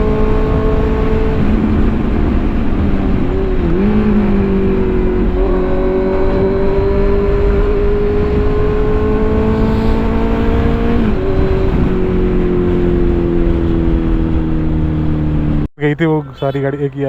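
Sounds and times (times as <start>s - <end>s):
motorcycle engine cruising: 0.0s - 15.7s
wind noise on microphone: 0.0s - 15.7s.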